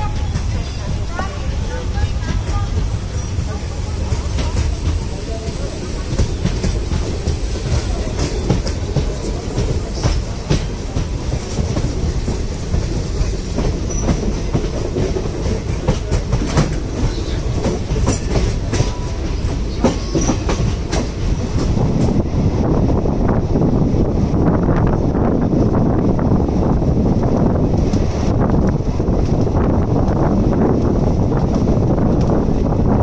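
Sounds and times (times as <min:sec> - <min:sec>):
train wheels rumbling on track: 0:00.0 - 0:33.0
wind rushing past microphone: 0:00.0 - 0:33.0.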